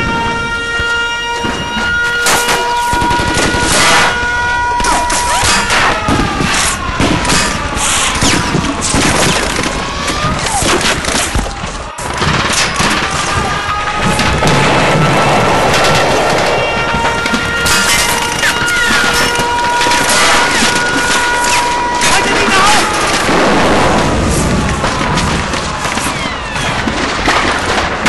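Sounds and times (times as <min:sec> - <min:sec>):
booms: 0:01.4 - 0:28.0
rapid gunfire: 0:02.3 - 0:04.2, 0:04.8 - 0:28.0.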